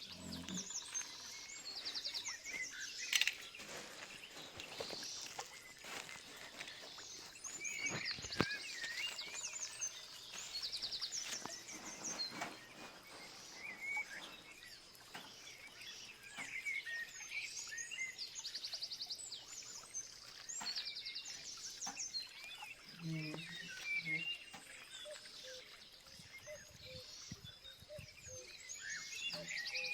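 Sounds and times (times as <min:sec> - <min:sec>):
birds singing and calling: 0:00.0 - 0:29.9.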